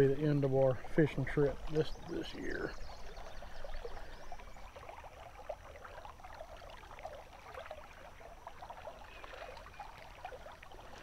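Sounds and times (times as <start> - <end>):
creek water trickling over gravel: 0.0 - 11.0.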